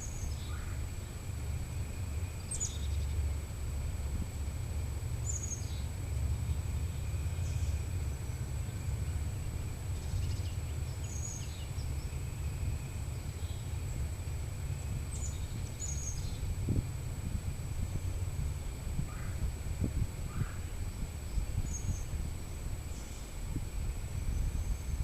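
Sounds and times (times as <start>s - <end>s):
songbird chirping: 0.0s - 4.0s, 4.8s - 25.0s
low outdoor rumble: 0.0s - 25.0s.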